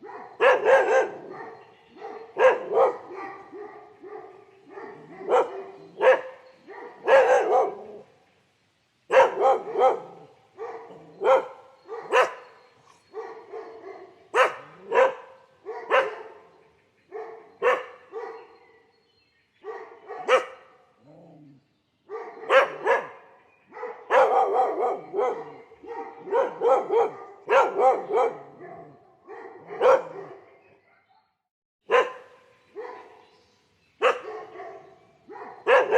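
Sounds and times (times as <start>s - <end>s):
dog barking: 0.0s - 8.1s, 9.1s - 16.5s, 17.1s - 18.9s, 19.6s - 20.8s, 22.1s - 33.3s, 34.0s - 35.9s.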